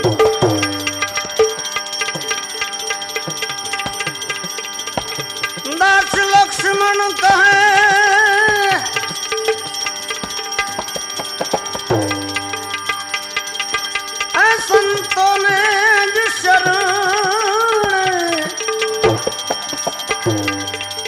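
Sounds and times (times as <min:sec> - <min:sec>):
melody line with vibrato: 0:00.0 - 0:21.0
tabla playing: 0:00.0 - 0:21.0.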